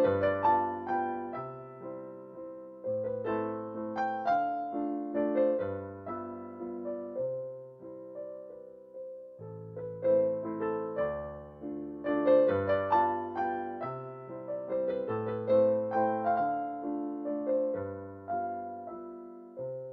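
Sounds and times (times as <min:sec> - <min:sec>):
piano music: 0:00.0 - 0:19.9.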